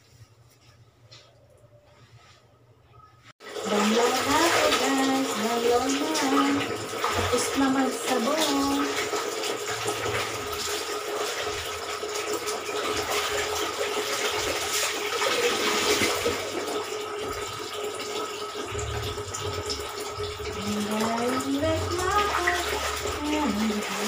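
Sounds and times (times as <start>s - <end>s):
water pouring into a basin: 3.4s - 24.0s
water sloshing in a plastic basin: 3.5s - 24.0s.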